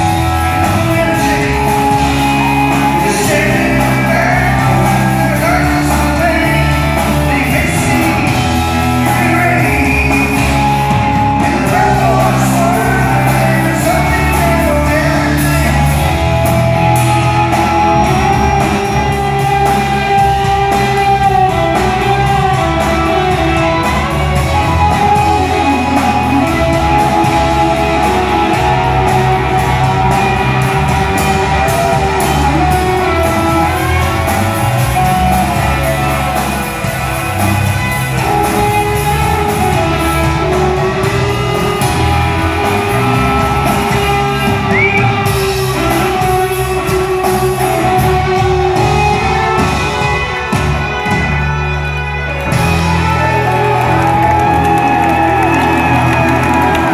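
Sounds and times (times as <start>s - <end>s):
drum kit: 0.0s - 56.9s
electric bass: 0.0s - 56.9s
electric guitar: 0.0s - 56.9s.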